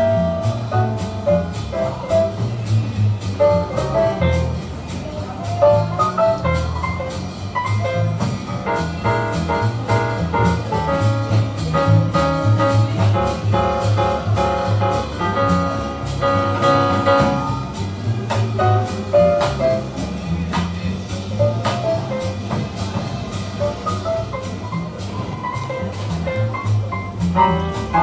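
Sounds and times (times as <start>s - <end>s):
jazz music: 0.0s - 28.0s.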